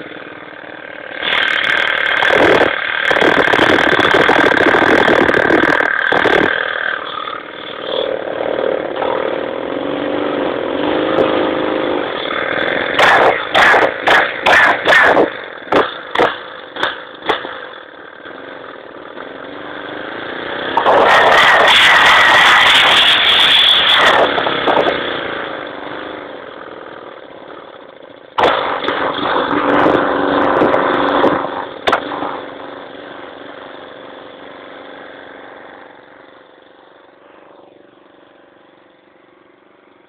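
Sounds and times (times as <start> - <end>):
engine popping: 0.0 - 40.0
lawn mower engine running: 0.0 - 40.0.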